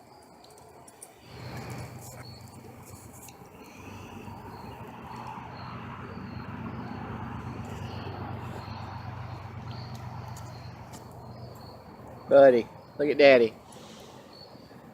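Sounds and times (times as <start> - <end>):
crickets chirping: 0.0 - 14.9
steady low hum: 1.1 - 14.9.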